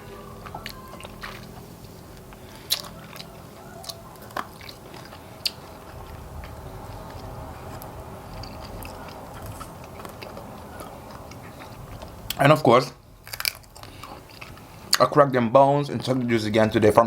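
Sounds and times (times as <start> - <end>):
chewing crunchy fried chicken: 0.0 - 15.1
low steady hum: 0.0 - 17.0.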